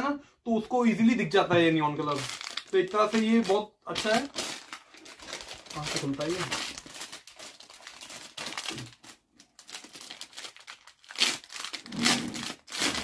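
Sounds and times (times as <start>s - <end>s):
plastic packaging crinkling: 2.0s - 13.0s.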